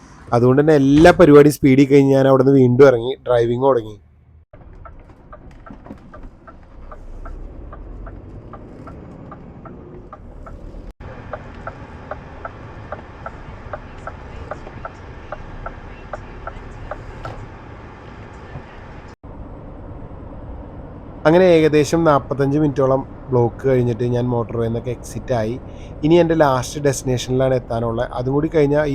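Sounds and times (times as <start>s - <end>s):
engine and road rumble: 0.0s - 28.9s.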